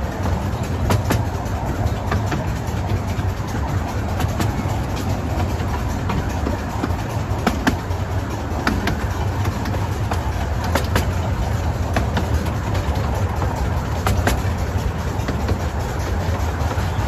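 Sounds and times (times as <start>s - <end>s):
clacks from rail joints: 0.0s - 17.0s
low rumble of train wheels: 0.0s - 17.0s.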